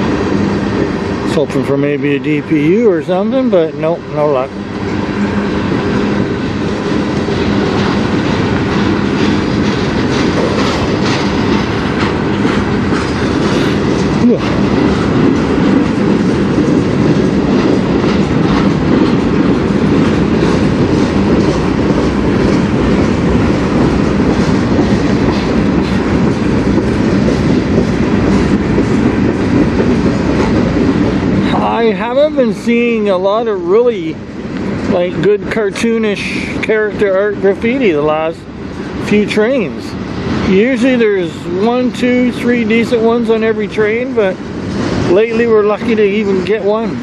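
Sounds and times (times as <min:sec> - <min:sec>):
freight cars rumbling past: 0:00.0 - 0:47.0
wheels clacking over rail joints: 0:00.0 - 0:47.0.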